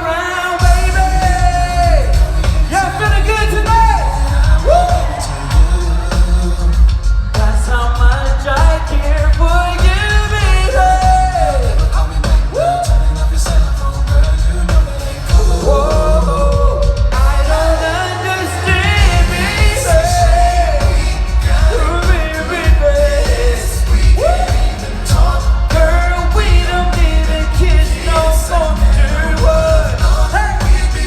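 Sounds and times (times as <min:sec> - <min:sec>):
band track with heavy bass: 0:00.0 - 0:31.0
singers with gliding vocal runs: 0:00.0 - 0:31.0.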